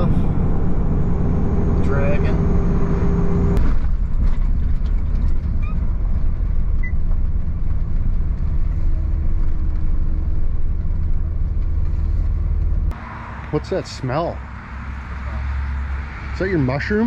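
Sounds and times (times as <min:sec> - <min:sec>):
vehicle driving rumble: 0:00.0 - 0:17.0.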